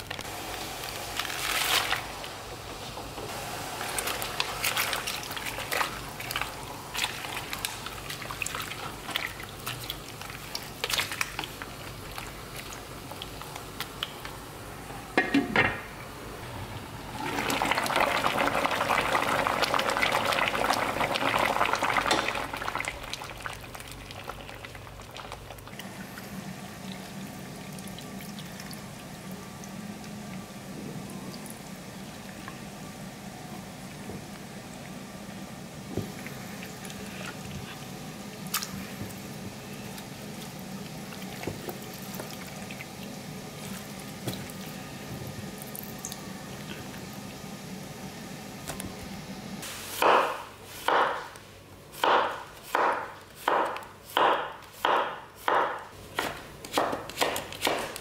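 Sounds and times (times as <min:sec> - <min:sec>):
boiling water hissing: 0:00.0 - 0:51.0.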